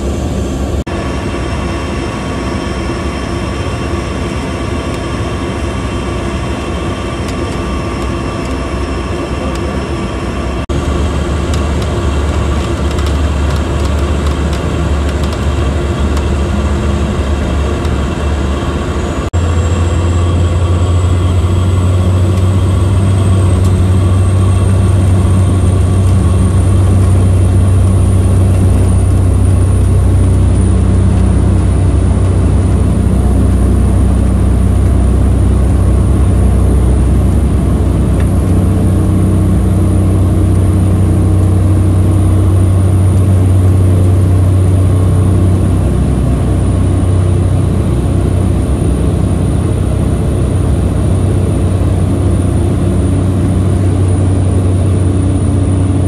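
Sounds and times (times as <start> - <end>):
high turbine whine: 0.0 - 56.0
propeller drone: 0.0 - 56.0.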